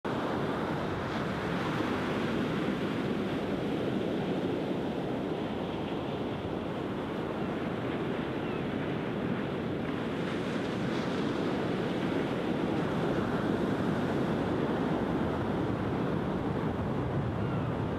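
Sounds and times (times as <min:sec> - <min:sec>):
waves breaking on beach: 0:00.1 - 0:17.9.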